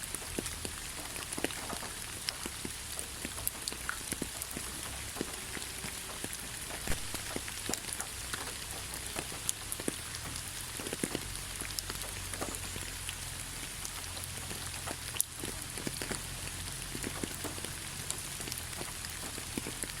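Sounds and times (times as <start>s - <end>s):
raindrops pattering: 0.0s - 20.0s
steady rain hiss: 0.0s - 20.0s.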